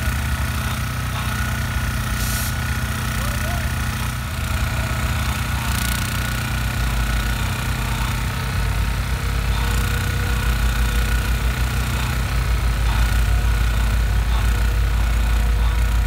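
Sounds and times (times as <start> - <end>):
locomotive engine drone: 0.0 - 16.0
rail grinder grinding metal: 0.0 - 16.0.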